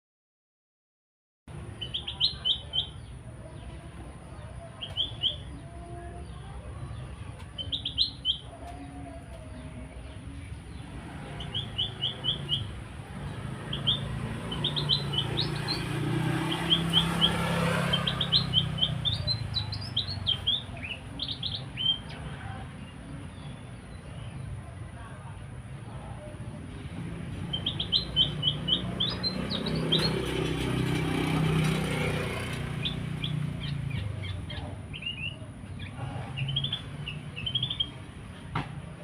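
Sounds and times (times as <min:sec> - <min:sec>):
songbird chirping: 0:01.5 - 0:39.0.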